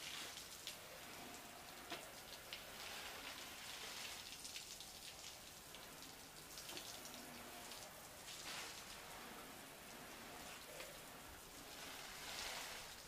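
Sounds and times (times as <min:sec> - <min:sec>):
hose spraying water on metal hull: 0:00.0 - 0:13.0
water dripping on plastic: 0:00.0 - 0:13.0.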